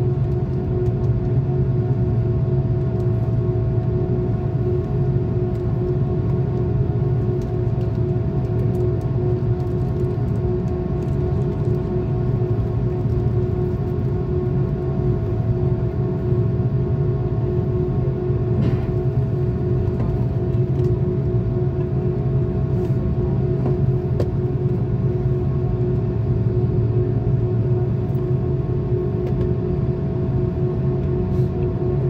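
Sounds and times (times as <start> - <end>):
constant hum tone: 0.0 - 32.0
low rumble of engines and cabin air: 0.0 - 32.0.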